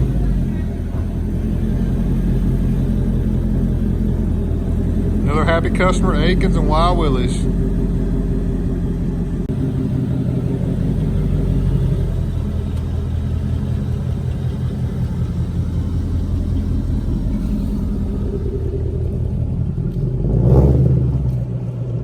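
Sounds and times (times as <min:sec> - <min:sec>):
engine exhaust rumble: 0:00.0 - 0:22.0.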